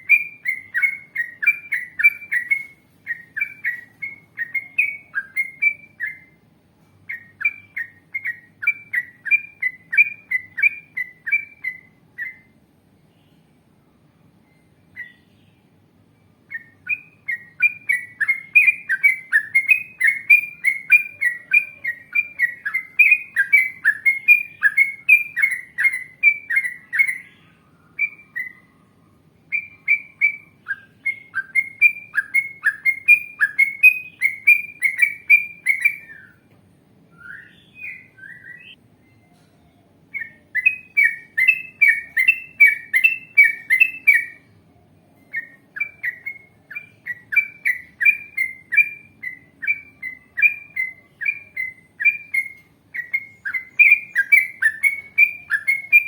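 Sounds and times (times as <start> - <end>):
bird singing rapid repeated notes: 0.0 - 56.0.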